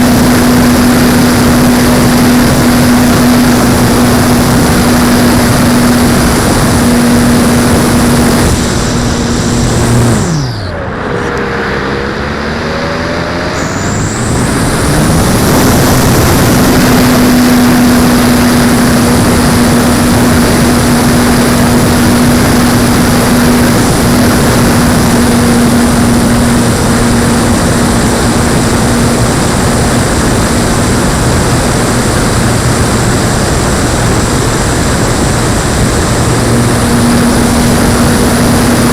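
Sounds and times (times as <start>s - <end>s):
electric motor and propeller hum: 0.0s - 38.9s
wind rush: 0.0s - 38.9s.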